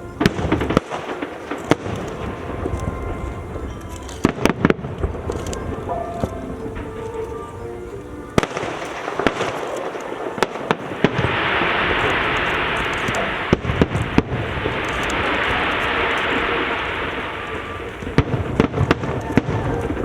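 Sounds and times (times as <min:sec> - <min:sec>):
fireworks bursting with bangs: 0:00.0 - 0:20.0
fireworks crackling: 0:00.0 - 0:20.0.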